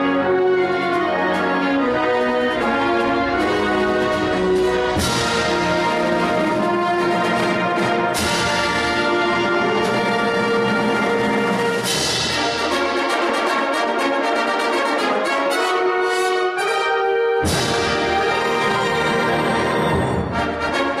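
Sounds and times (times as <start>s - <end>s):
wind band playing: 0.0s - 21.0s.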